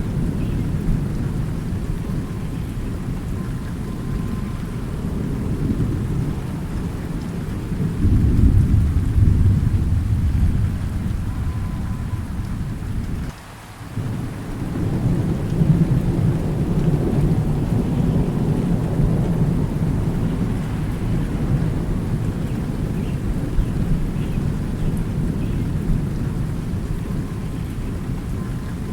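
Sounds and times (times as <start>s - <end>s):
low rolling thunder: 0.0s - 28.9s
steady rain: 0.0s - 28.9s.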